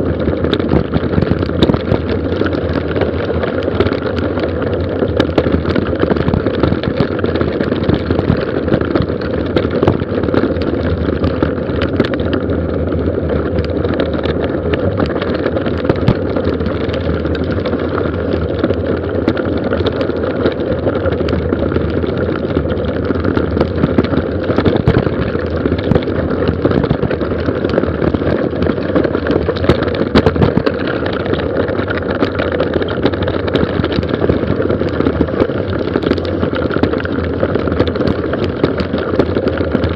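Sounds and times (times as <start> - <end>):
gravel and bike rattling: 0.0 - 39.9
tyre and riding noise: 0.0 - 39.9.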